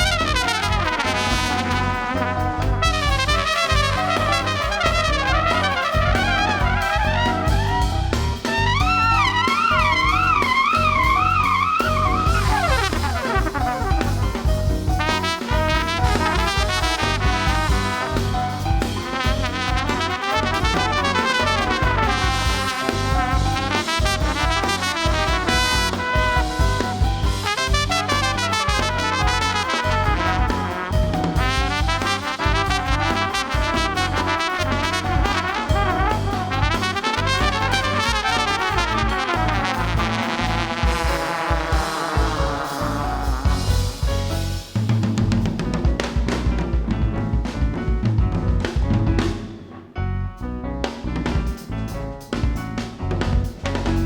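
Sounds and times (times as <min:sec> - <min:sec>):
trumpet melody: 0:00.0 - 0:47.6
double bass: 0:00.0 - 0:54.0
drum kit: 0:00.0 - 0:54.0
piano: 0:00.0 - 0:54.0.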